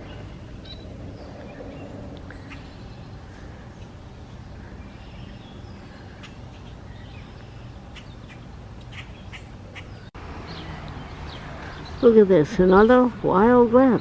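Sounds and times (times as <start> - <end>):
birds chirping and calling: 0.0 - 14.0
steady low rumble: 0.0 - 14.0.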